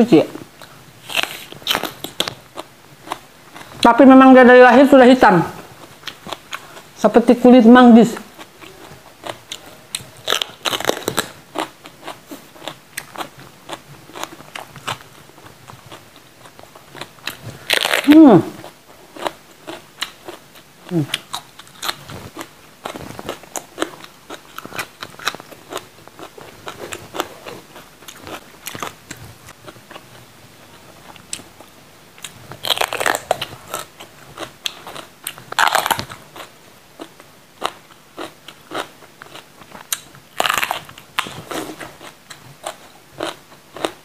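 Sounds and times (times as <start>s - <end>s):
person crunching raw pepper: 1.0s - 3.7s, 8.3s - 15.0s, 15.7s - 30.0s, 32.2s - 44.0s.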